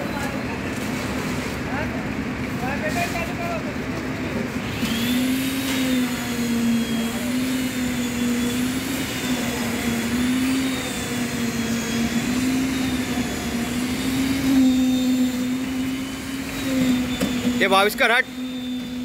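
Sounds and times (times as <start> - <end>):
machinery engine-like hum: 0.0 - 19.0.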